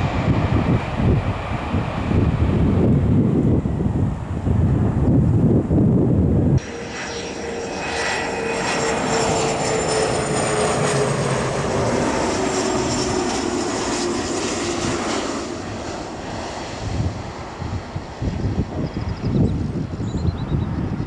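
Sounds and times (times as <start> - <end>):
jet engines whining: 0.0 - 5.1, 5.7 - 21.0.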